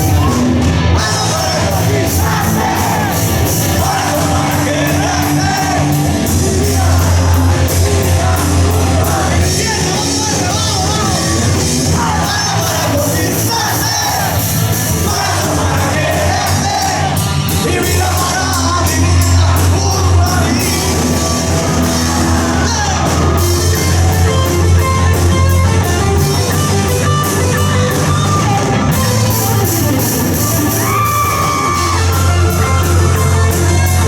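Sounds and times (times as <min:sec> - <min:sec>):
bass guitar: 0:00.0 - 0:34.0
drum and cymbal hits: 0:00.0 - 0:34.0
electric guitar: 0:00.0 - 0:34.0.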